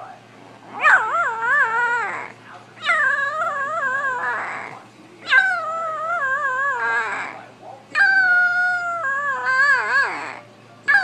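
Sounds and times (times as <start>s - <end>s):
puppy howling: 0.7s - 11.0s.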